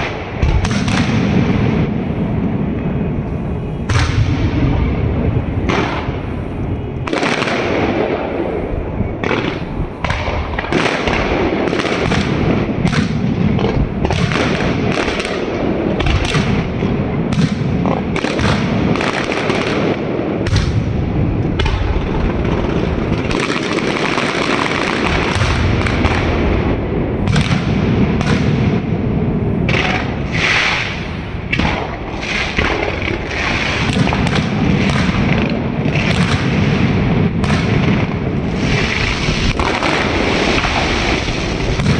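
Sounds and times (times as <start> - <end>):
continuous rumble: 0.0 - 41.9
fireworks bangs and booms: 0.0 - 41.9.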